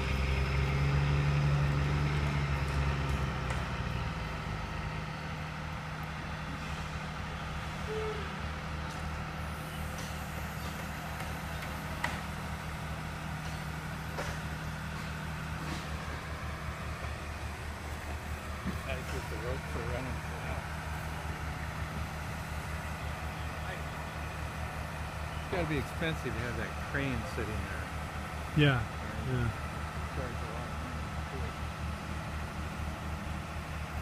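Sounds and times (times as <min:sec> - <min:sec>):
diesel engine running under load: 0:00.0 - 0:34.0.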